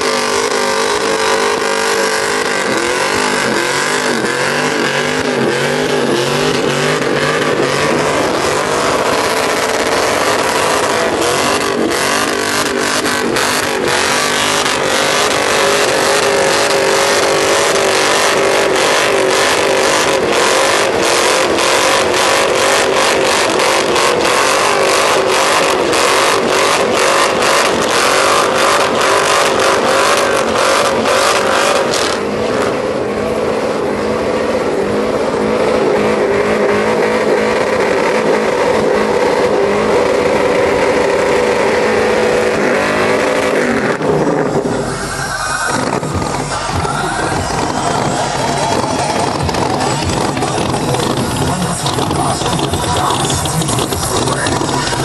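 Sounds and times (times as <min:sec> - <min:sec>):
spinning tyres hissing: 0:00.0 - 0:55.0
truck engine revving high: 0:00.0 - 0:55.0.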